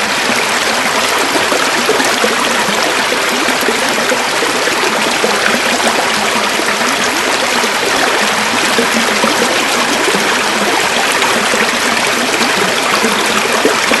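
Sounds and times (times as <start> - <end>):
river water babbling: 0.0 - 14.0.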